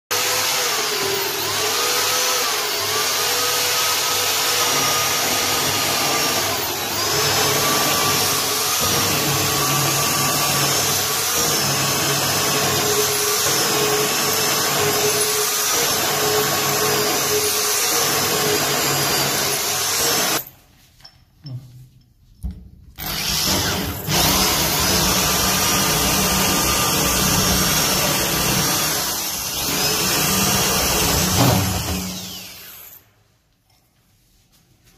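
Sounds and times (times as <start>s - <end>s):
electric drill boring into wood: 0.1s - 20.4s, 23.0s - 33.0s.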